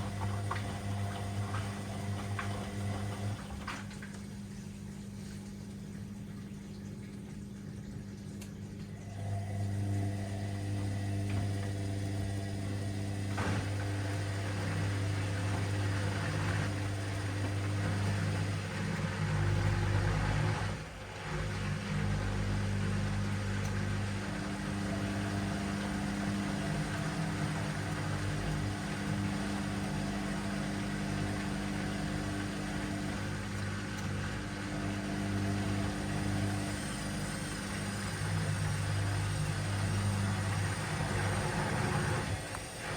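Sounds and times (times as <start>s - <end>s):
washing machine motor humming: 0.0s - 42.9s.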